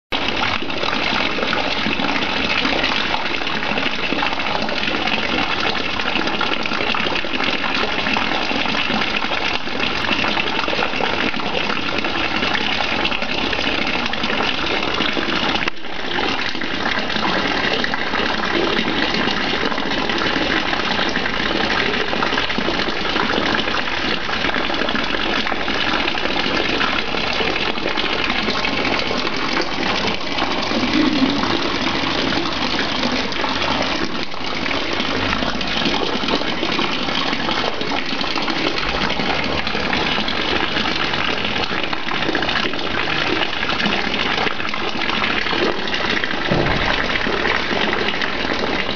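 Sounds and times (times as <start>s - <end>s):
water splashing into pond: 0.1s - 48.9s.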